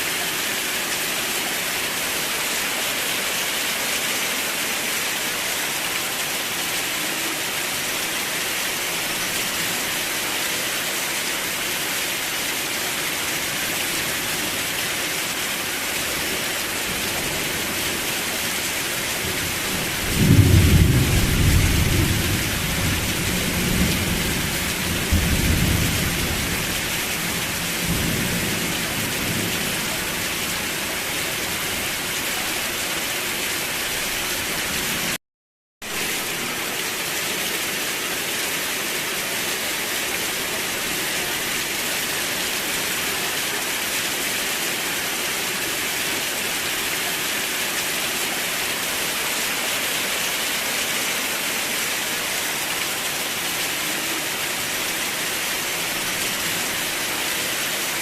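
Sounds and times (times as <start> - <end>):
steady rain: 0.0 - 35.2, 35.8 - 58.0.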